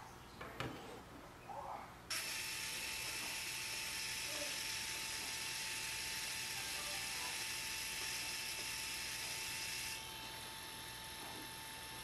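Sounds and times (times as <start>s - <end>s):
photo printer motor whirring: 2.1s - 12.0s.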